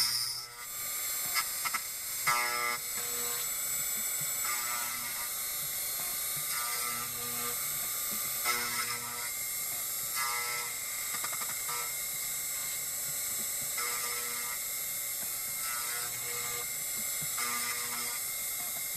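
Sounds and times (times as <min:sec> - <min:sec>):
router spindle high whine: 0:00.0 - 0:18.9.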